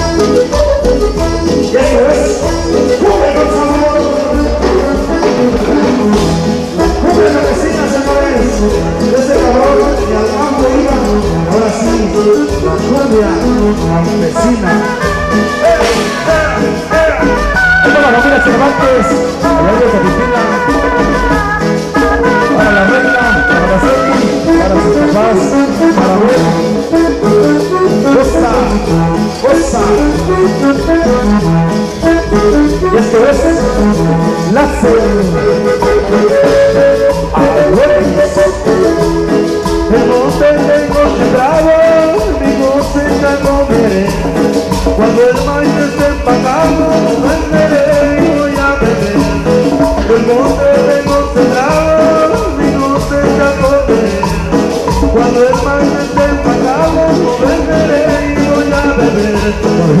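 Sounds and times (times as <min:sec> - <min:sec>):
live band playing dance music: 0:00.0 - 1:00.0.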